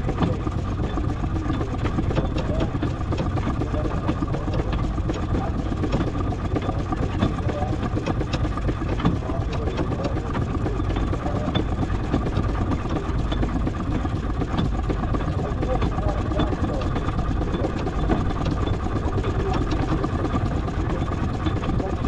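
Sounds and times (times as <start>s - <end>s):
light clicks and knocks: 0.0s - 22.0s
steam traction engine rumbling: 0.0s - 22.0s.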